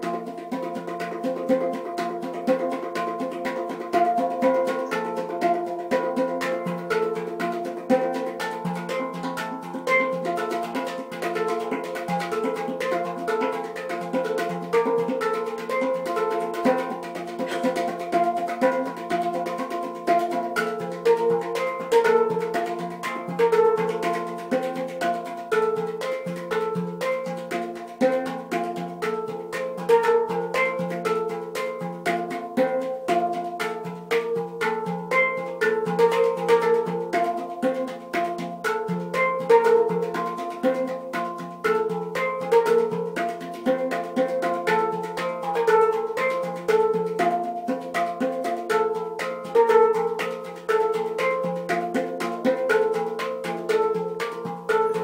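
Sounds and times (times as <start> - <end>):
handpan melody: 0.0 - 55.0.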